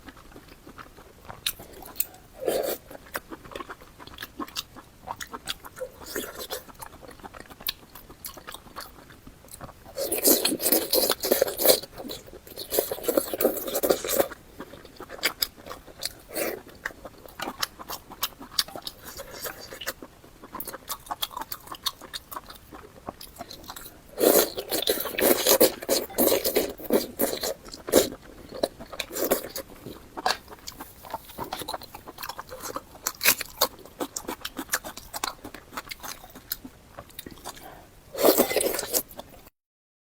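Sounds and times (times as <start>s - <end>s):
person chewing food: 0.0s - 39.5s.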